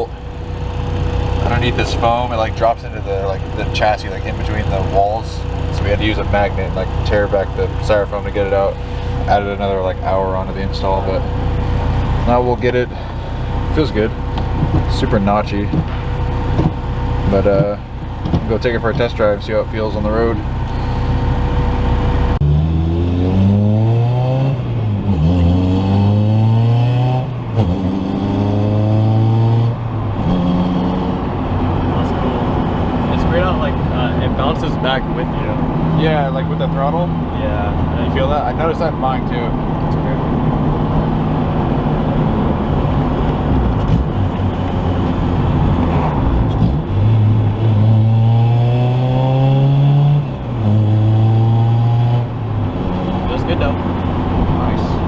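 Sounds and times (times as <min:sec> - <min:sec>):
car engine accelerating through gears: 0:00.0 - 0:55.0
road noise: 0:00.0 - 0:55.0.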